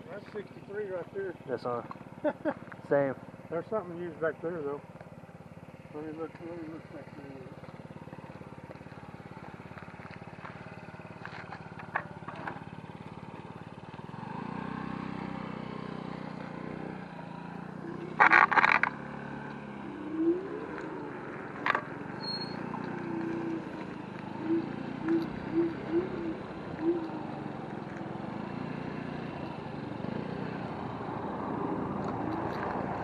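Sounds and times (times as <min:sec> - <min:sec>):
low engine hum: 0:00.0 - 0:33.0
wind and road noise: 0:00.0 - 0:33.0
electric scooter motor hum: 0:04.8 - 0:33.0.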